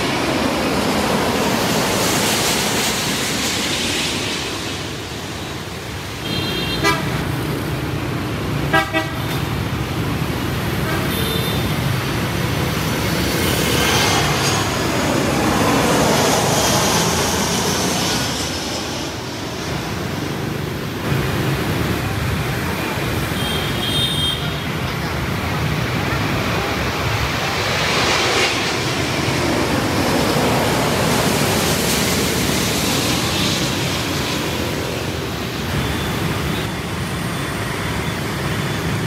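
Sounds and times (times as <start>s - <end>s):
street traffic noise: 0.0s - 39.0s.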